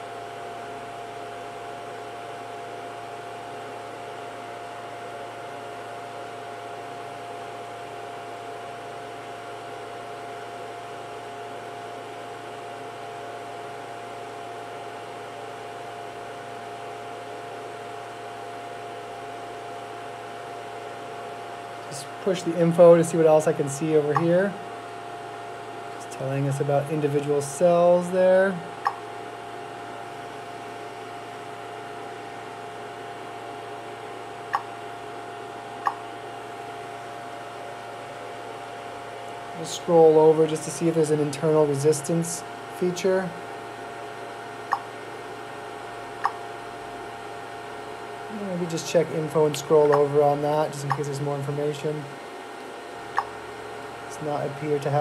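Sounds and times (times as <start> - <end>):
cooling fans whirring: 0.0 - 55.0.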